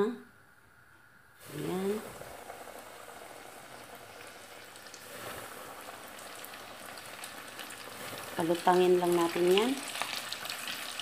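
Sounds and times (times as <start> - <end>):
chicken deep-frying in oil: 1.4 - 11.0.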